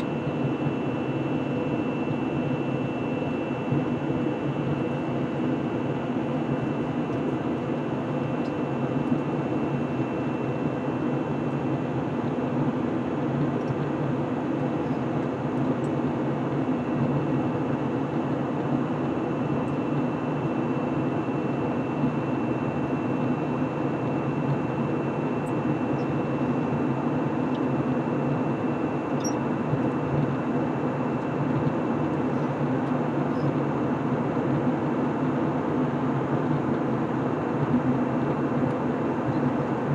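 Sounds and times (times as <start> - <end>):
airplane cabin engine hum: 0.0 - 39.9.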